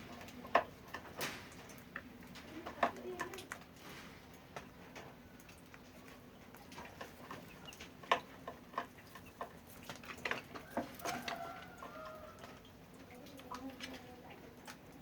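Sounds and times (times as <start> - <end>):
chickens clucking: 1.8 - 15.0.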